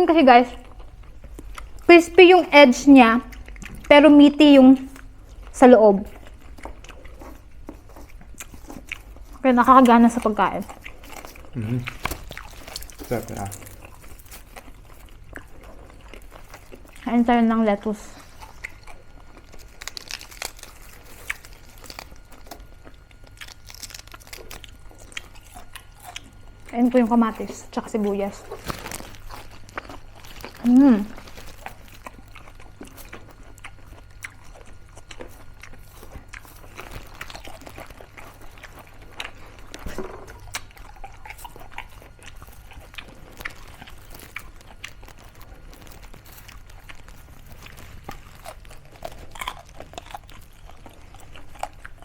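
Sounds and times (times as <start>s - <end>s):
crisp crunching and chewing: 0.1s - 52.0s.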